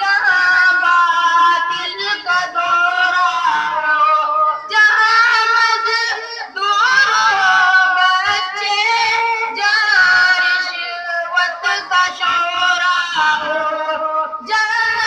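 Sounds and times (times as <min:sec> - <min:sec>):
boy singing through loudspeaker: 0:00.0 - 0:15.0.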